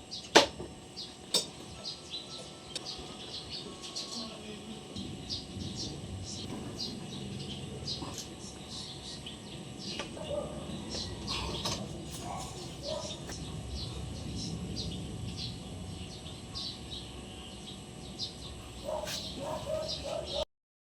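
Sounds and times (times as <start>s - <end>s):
small birds chirping: 0.0s - 20.4s.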